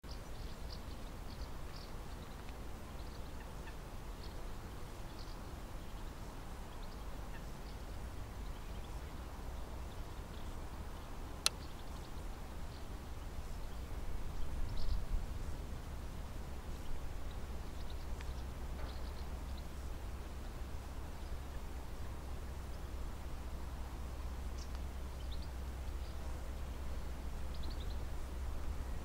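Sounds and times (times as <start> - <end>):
faint bird chirps: 0.0 - 15.6, 16.2 - 29.0
steady low rumble: 0.3 - 29.0.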